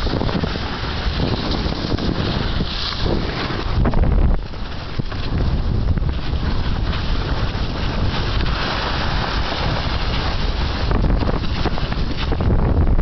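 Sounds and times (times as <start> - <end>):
skis gliding over snow: 0.0 - 13.0
wind buffeting microphone: 0.0 - 13.0.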